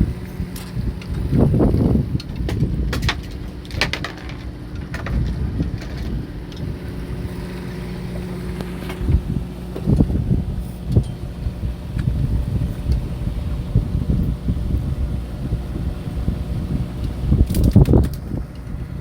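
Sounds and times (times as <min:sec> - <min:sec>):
boat machinery humming: 0:00.0 - 0:19.0
wind buffeting microphone: 0:00.0 - 0:19.0.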